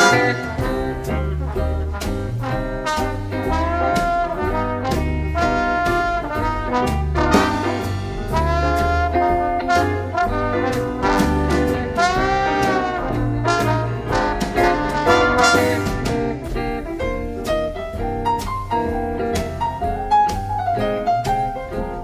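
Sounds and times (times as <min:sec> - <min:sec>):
big band playing jazz: 0:00.0 - 0:22.0
drums keeping a steady beat: 0:00.0 - 0:22.0.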